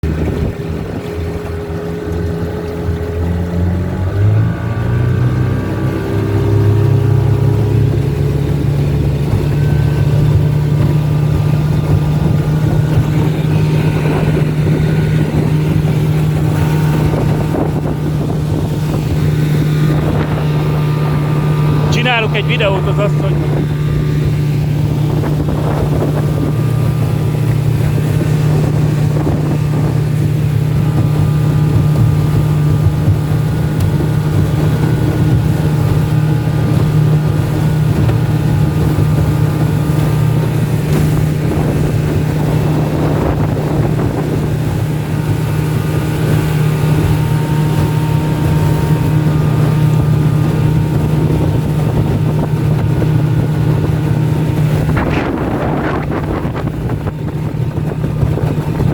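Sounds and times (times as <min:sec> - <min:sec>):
outboard motor running: 0:00.0 - 0:58.9
wind buffeting microphone: 0:00.0 - 0:58.9.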